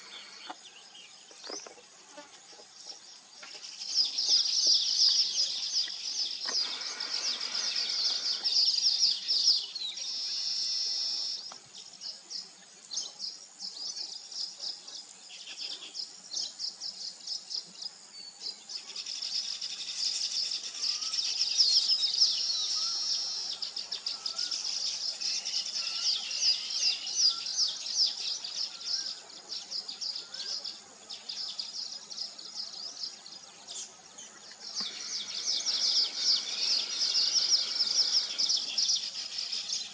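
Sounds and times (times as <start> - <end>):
birds chattering and twittering: 0.0 - 39.9.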